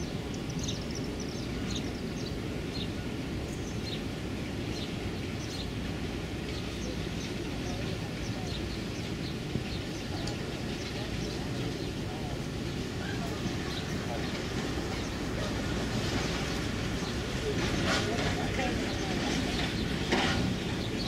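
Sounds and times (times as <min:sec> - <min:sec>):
birds chirping: 0:00.0 - 0:21.0
boat diesel engines rumbling: 0:00.0 - 0:21.0.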